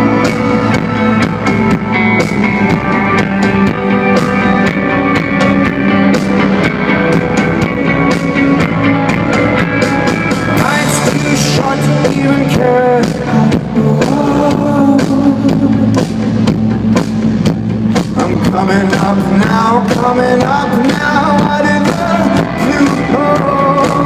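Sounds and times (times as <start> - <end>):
drum kit beating: 0.0 - 24.0
guitar chords: 0.0 - 24.0.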